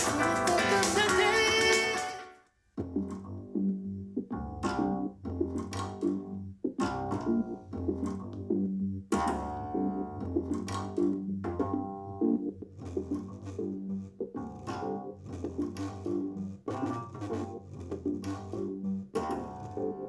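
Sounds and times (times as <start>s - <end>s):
instrumental music with bass and keyboard: 0.0s - 20.0s.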